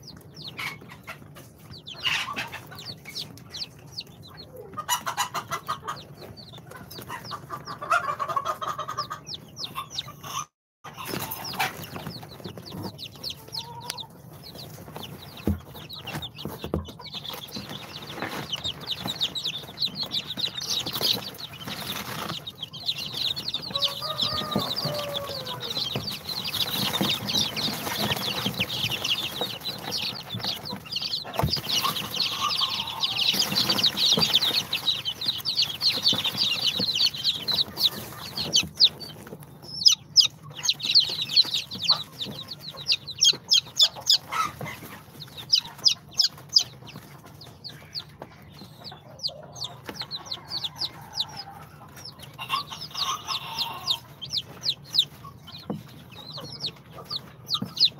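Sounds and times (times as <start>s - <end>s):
chicks peeping: 0.0s - 57.9s.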